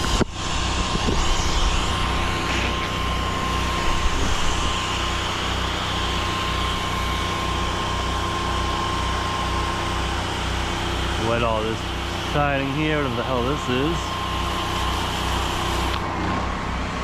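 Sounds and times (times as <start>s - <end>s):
pressure washer engine running: 0.0s - 17.0s.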